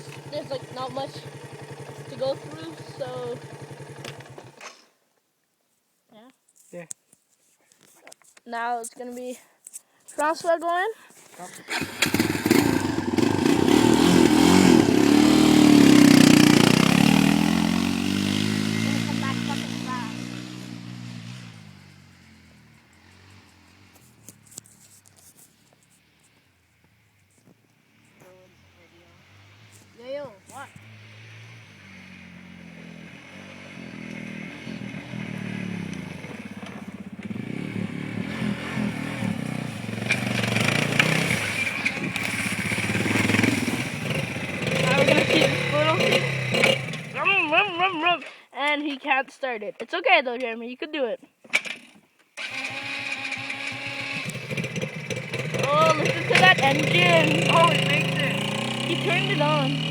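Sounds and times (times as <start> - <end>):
atv engine revving: 0.0 - 4.9, 11.4 - 26.4, 27.8 - 49.2, 51.5 - 59.9.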